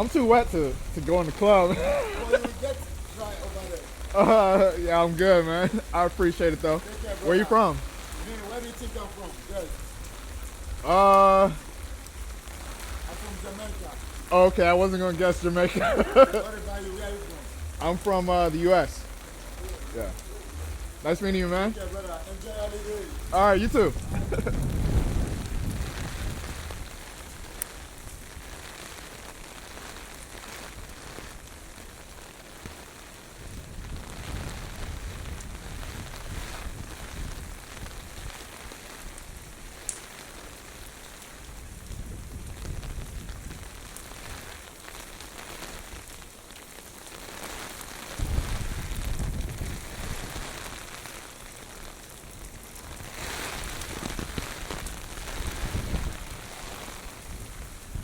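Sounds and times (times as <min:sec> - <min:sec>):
heavy rain falling: 0:00.0 - 0:58.0
wind rumbling: 0:00.0 - 0:58.0.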